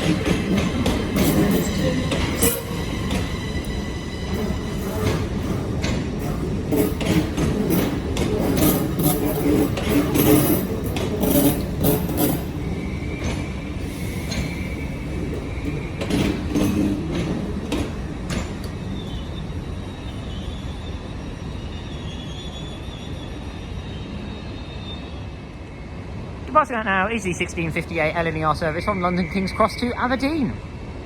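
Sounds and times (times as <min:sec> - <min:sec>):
train rumbling at platform: 0:00.0 - 0:31.0.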